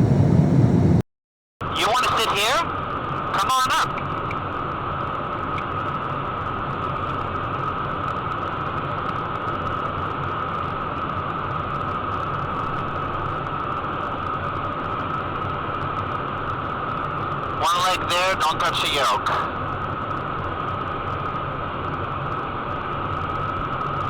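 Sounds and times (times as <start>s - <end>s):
jet engines and airflow rushing: 0.0s - 1.0s, 1.6s - 24.0s.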